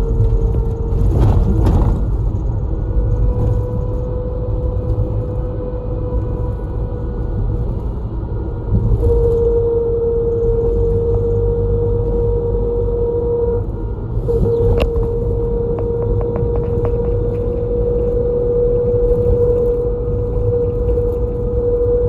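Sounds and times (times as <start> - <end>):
bus engine and road rumble: 0.0 - 22.0
mid-pitched whine: 2.9 - 22.0.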